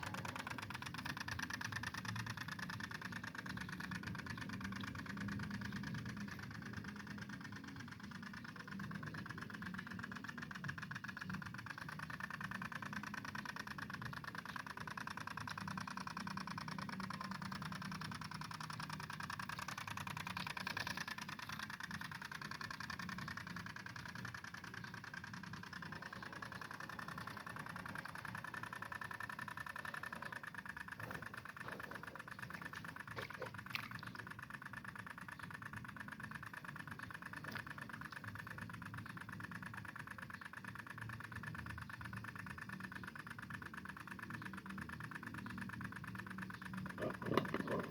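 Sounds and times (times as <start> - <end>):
two-stroke tiller engine buzzing: 0.0 - 47.9.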